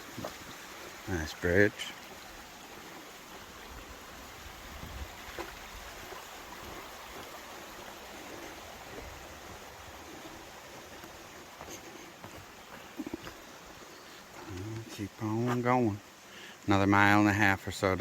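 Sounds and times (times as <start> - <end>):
creek flowing: 0.0 - 18.0.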